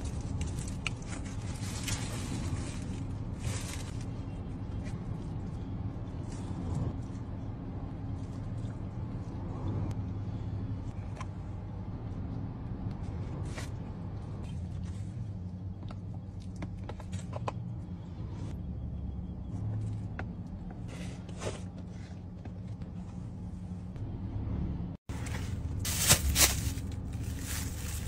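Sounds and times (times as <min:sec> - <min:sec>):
low car cabin hum: 0:00.0 - 0:28.0.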